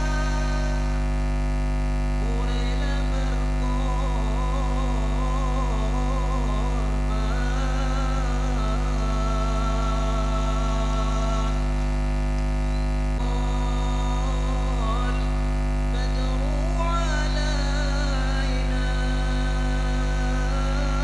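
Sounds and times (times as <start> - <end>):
men singing through a pa: 0.0 - 0.9, 2.2 - 11.7, 13.2 - 21.0
mains hum: 0.0 - 21.0.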